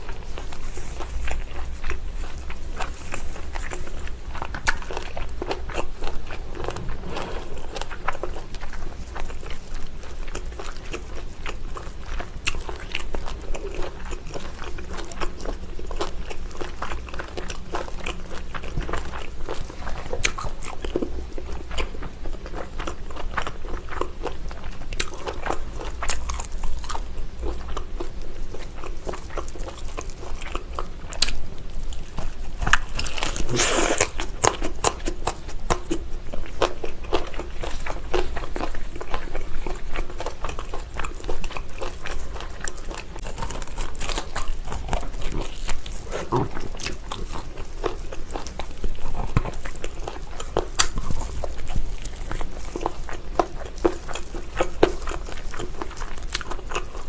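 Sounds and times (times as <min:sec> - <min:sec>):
biting and chewing meat: 0:00.0 - 0:57.0.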